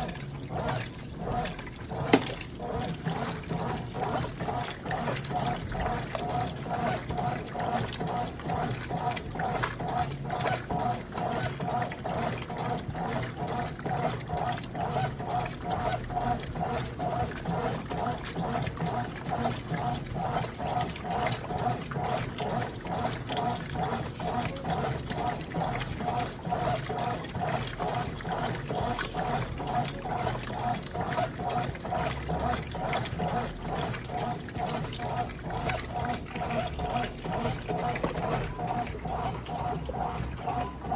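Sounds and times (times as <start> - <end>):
washing machine agitating: 0.0 - 40.9
water sloshing: 0.0 - 40.9.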